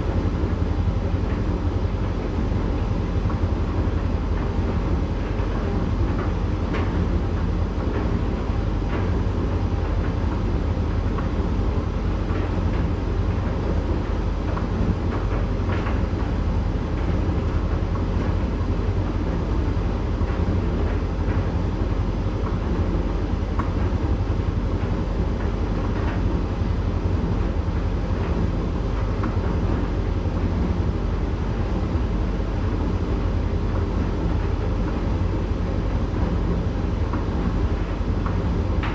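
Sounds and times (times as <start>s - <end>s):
tumble dryer humming: 0.0s - 38.9s.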